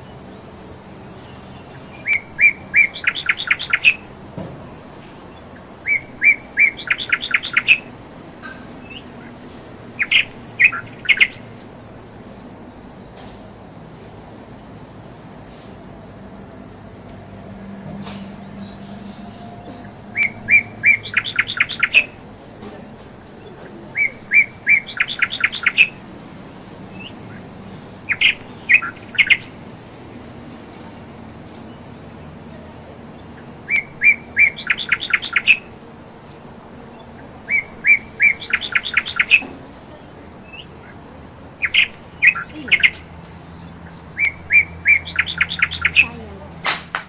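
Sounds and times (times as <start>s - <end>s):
bird chirping with trills: 1.1s - 12.0s, 18.0s - 22.4s, 23.2s - 46.5s.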